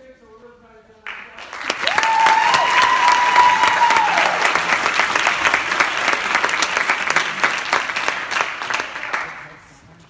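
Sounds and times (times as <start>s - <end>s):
audience applauding: 1.1s - 9.7s.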